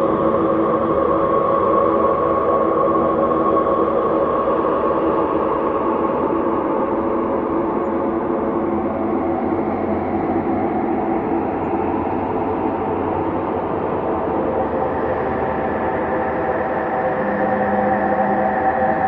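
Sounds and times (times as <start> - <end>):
ambient space drone: 0.0 - 19.0.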